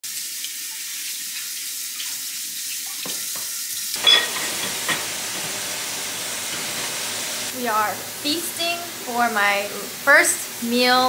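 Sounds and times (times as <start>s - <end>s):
food sizzling in a frying pan: 0.1s - 11.0s.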